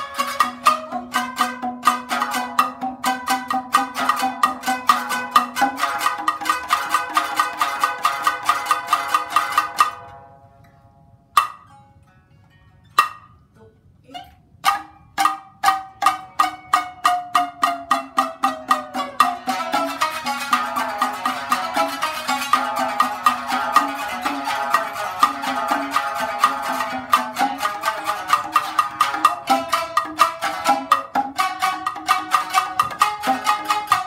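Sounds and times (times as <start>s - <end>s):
shamisen ensemble plucking: 0.0s - 34.0s.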